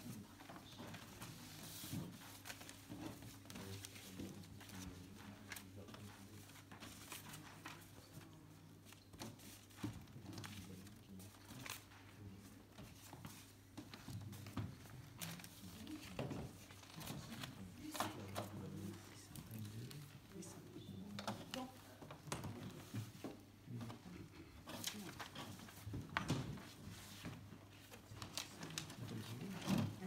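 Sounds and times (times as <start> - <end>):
paper rustling and crinkling: 0.0 - 23.3, 24.7 - 30.0.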